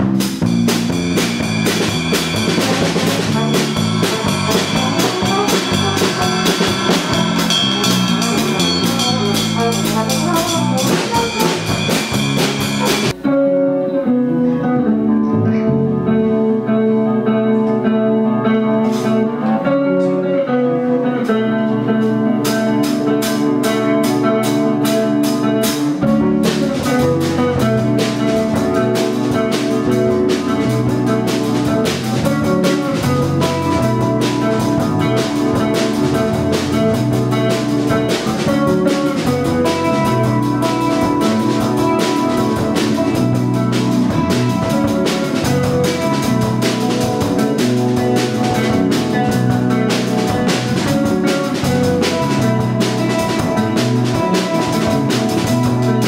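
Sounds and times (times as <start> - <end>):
drum kit: 0.0 - 13.5, 18.6 - 20.3, 21.0 - 56.0
electric bass: 0.0 - 56.0
electric guitar chords: 0.0 - 56.0.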